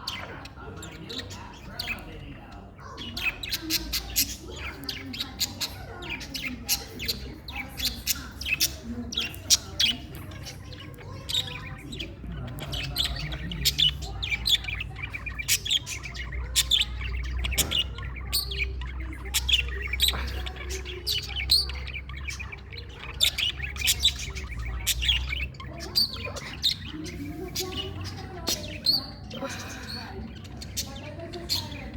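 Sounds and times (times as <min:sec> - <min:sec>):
budgerigars chirping: 0:00.0 - 0:31.9.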